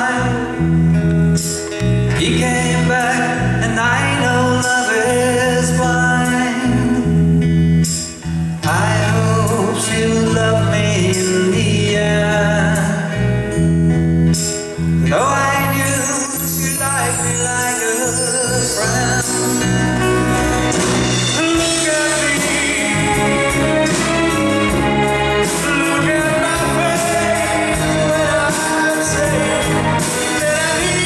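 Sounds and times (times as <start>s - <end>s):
man singing: 0.0s - 0.8s, 1.5s - 7.4s, 8.6s - 13.6s, 15.0s - 31.0s
acoustic guitars: 0.0s - 31.0s
bass guitar: 0.0s - 31.0s
drums: 0.0s - 31.0s
piano: 0.0s - 31.0s.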